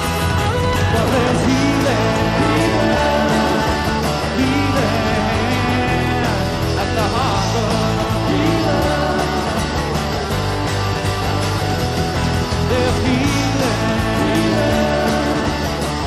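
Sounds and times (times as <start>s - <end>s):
acoustic guitar: 0.0s - 16.0s
bass guitar: 0.0s - 16.0s
drums: 0.0s - 16.0s
electric guitar: 0.0s - 16.0s.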